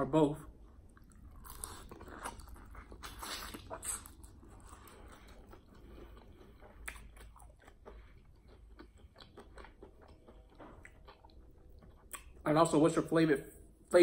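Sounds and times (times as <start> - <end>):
chewing fried chicken: 0.6 - 12.5.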